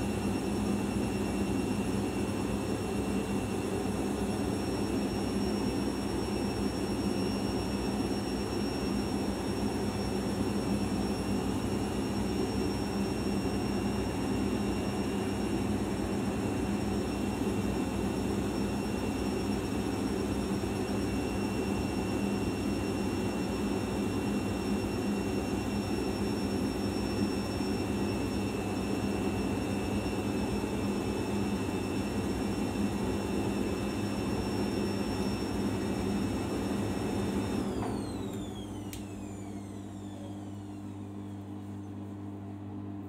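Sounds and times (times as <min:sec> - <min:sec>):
washing machine motor humming: 0:00.0 - 0:43.0.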